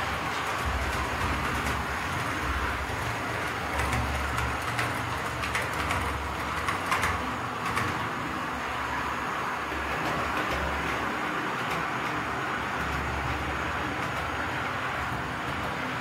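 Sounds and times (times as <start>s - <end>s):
wheels clicking over rail joints: 0.0s - 16.0s.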